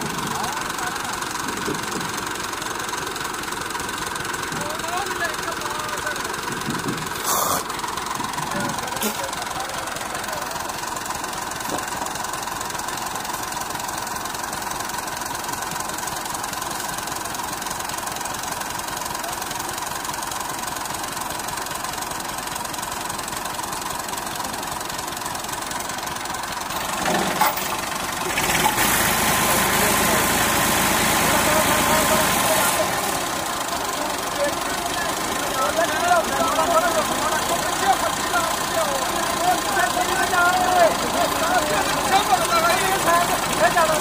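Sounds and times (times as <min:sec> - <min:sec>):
tractor diesel engine idling: 0:00.0 - 0:44.0.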